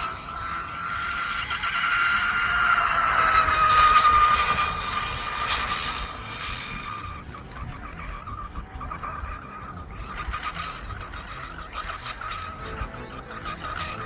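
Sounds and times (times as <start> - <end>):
rc boat motor whining: 0.0 - 14.0.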